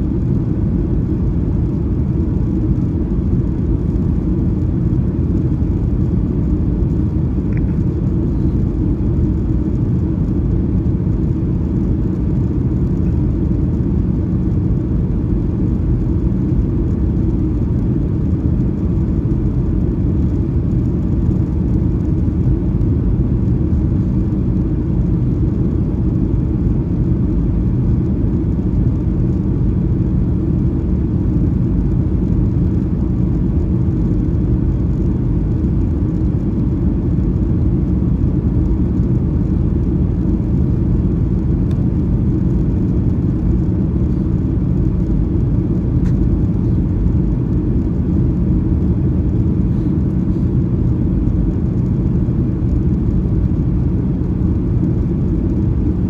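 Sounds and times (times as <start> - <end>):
aircraft cabin low rumble: 0.0 - 56.0.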